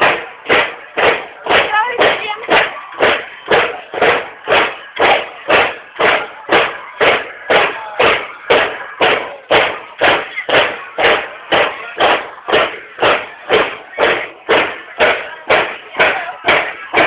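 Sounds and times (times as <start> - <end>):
marching drums beating cadence: 0.0 - 17.0.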